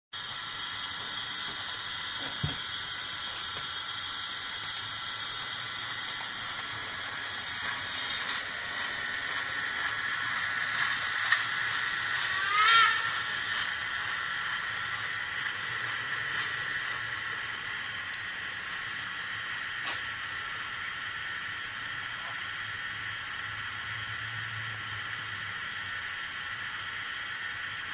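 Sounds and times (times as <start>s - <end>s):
model steam locomotive hiss: 0.2s - 27.9s.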